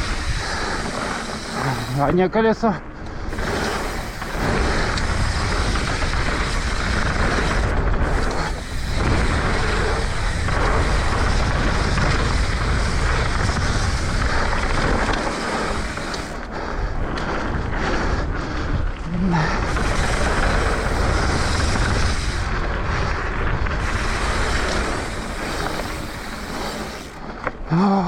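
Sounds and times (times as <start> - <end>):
wind rushing over microphone: 0.0 - 27.8
bike tyres rolling over dirt: 0.0 - 28.0.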